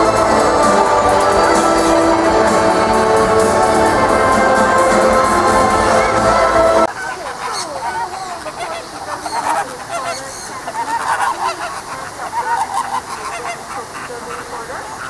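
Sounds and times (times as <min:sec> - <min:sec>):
birds squawking and honking: 0:00.0 - 0:15.0.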